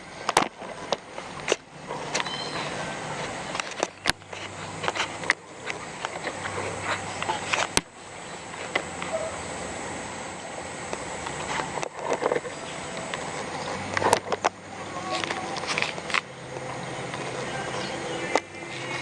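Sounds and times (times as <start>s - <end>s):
steady background hiss: 0.0s - 19.0s
thin high continuous tone: 0.0s - 19.0s.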